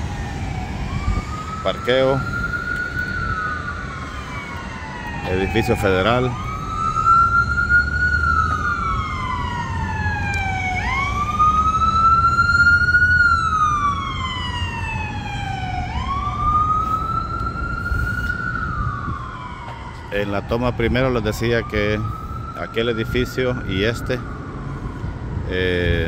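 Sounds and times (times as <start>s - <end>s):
emergency siren wailing: 0.0s - 26.0s.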